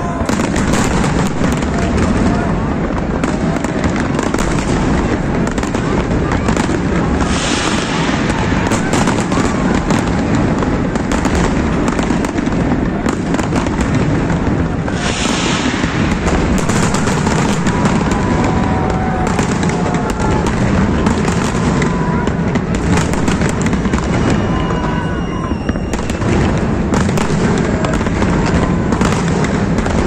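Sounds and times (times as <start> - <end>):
fireworks crackling bangs and pops: 0.0 - 30.0
fireworks hissing bursts: 0.0 - 30.0.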